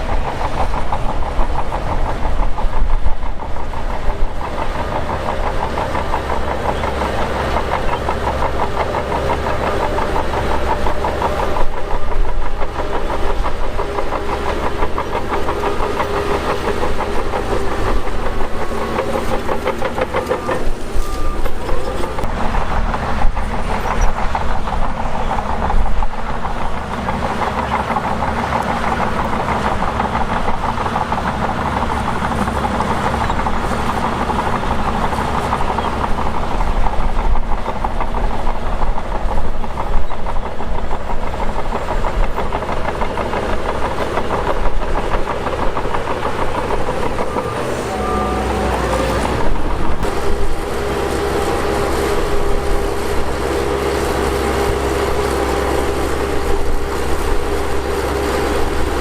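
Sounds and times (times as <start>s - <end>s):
bulldozer diesel engine: 0.0s - 59.0s
crawler tracks rattling: 0.0s - 59.0s.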